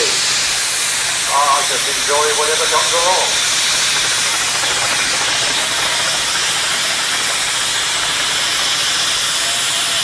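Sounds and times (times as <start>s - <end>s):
loud steam hiss: 0.0s - 10.0s.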